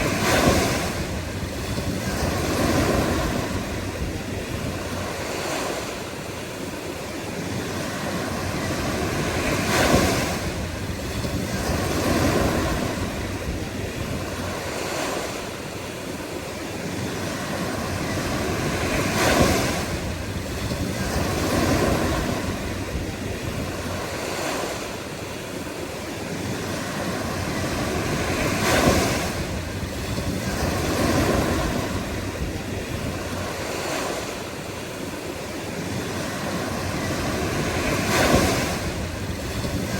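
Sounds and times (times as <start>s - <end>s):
ocean waves crashing: 0.0s - 39.9s.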